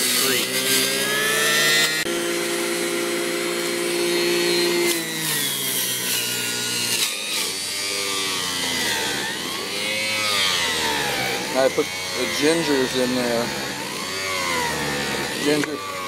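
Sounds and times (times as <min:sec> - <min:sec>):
juicer motor whining: 0:00.0 - 0:16.0.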